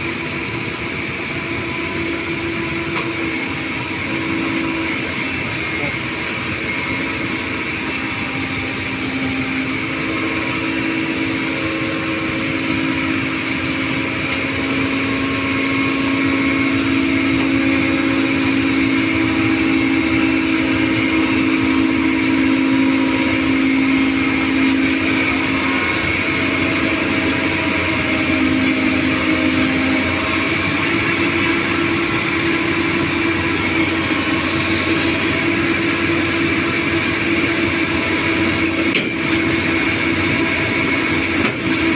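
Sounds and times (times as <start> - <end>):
excavator droning hum: 0.0 - 41.9.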